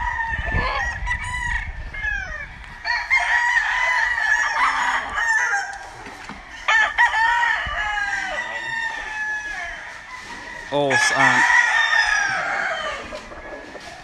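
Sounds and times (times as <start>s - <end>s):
roosters crowing: 0.0s - 14.0s.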